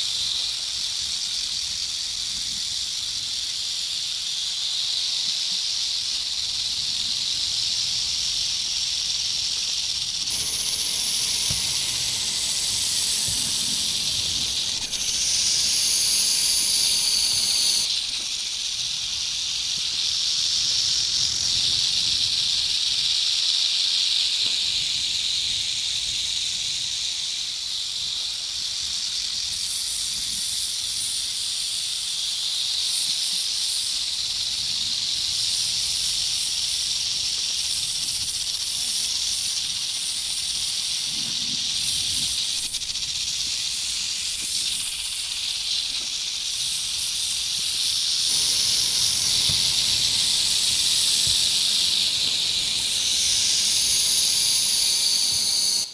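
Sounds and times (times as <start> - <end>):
higher sharper hiss: 0.0 - 55.9
snakes hissing: 0.0 - 55.9.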